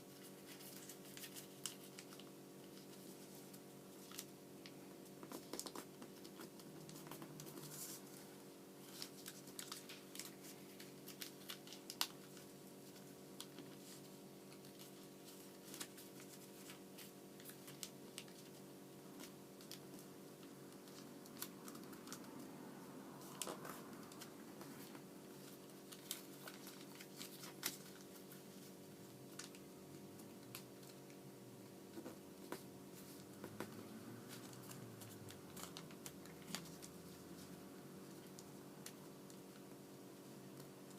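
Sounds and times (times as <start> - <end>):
low electrical hum: 0.0 - 40.9
paper being folded and creased: 0.1 - 22.4, 23.2 - 29.6, 32.0 - 39.6.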